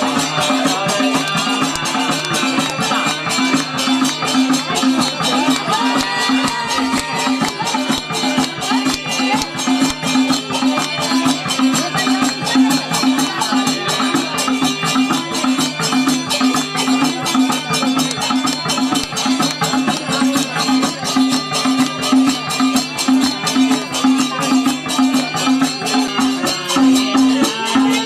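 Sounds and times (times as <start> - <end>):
folk dance music with percussion: 0.0 - 28.0.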